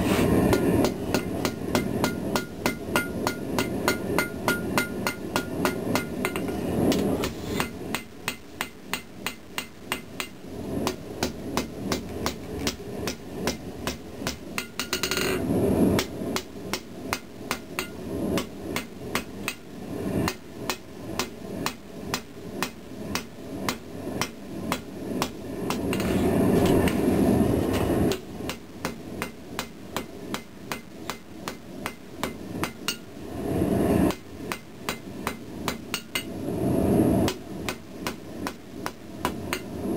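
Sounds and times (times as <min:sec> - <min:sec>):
steady rushing noise: 0:00.0 - 0:39.9
hammer striking steel on anvil: 0:00.5 - 0:15.4, 0:16.4 - 0:27.0, 0:28.1 - 0:33.1, 0:34.1 - 0:36.3, 0:37.3 - 0:39.7.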